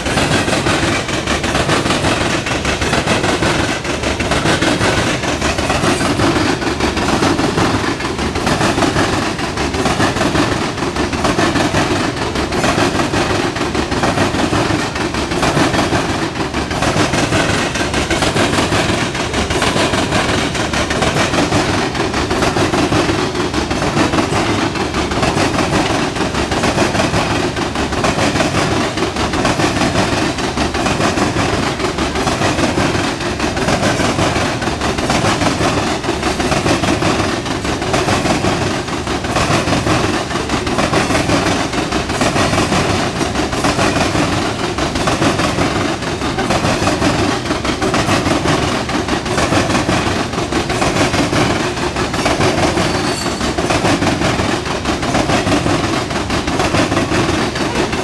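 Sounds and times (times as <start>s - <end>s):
steel wheels rumbling on track: 0.0s - 58.0s.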